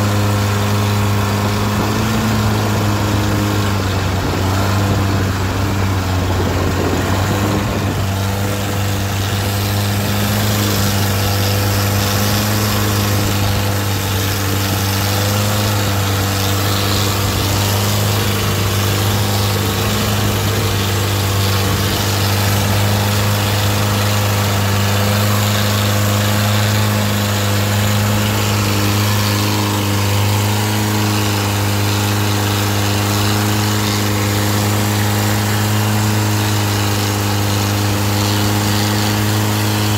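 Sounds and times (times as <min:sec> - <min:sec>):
boat engine droning: 0:00.0 - 0:39.9
water spray rushing: 0:00.0 - 0:39.9
wind: 0:00.0 - 0:39.9.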